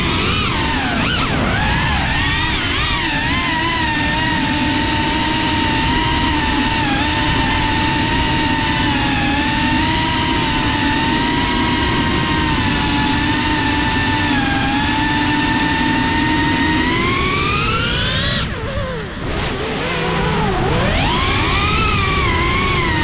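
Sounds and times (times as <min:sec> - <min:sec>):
drone propellers whining: 0:00.0 - 0:23.0.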